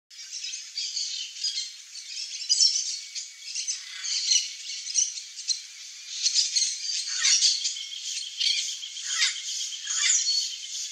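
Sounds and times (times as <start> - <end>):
birds squawking and chattering: 0.2 - 10.9.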